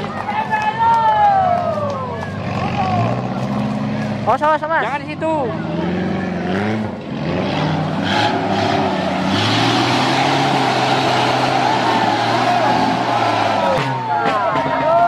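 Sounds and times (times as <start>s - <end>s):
off-road vehicle engine under load: 1.6s - 15.0s.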